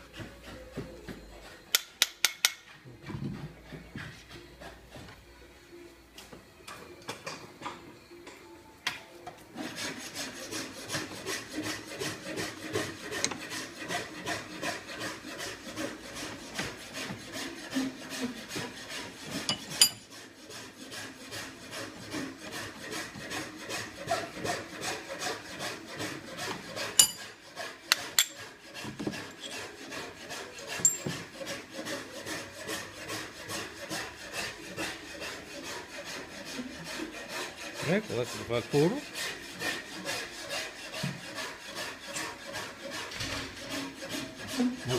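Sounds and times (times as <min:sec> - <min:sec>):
hand filing strokes: 0:00.0 - 0:05.5, 0:09.5 - 0:44.9.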